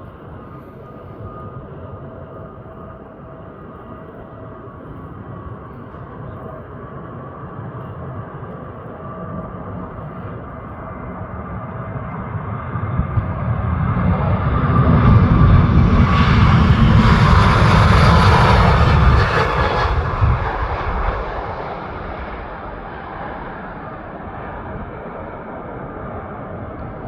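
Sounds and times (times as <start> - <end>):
jet airliner taking off: 0.0 - 27.0
jet engine whine: 0.0 - 27.0.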